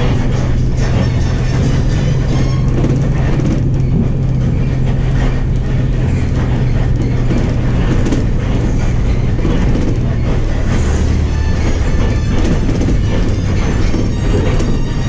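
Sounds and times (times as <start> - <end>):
bus body rattle: 0.0 - 15.0
bus engine drone: 0.0 - 15.0
road rumble: 0.0 - 15.0.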